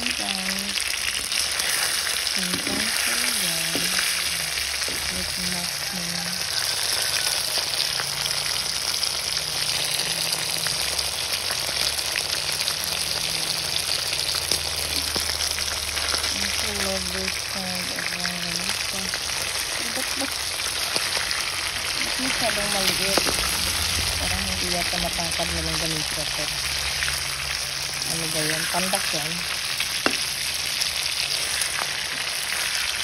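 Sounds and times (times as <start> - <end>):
sausages sizzling in hot oil: 0.0 - 33.0.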